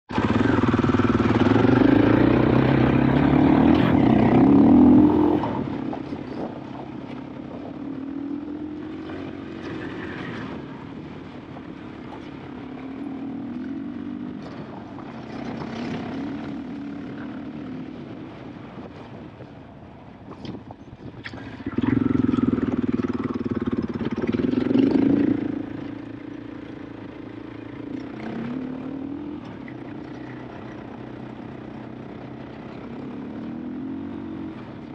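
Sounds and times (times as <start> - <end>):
motorcycle engine revving: 0.1 - 11.1, 12.4 - 18.4, 21.3 - 34.9.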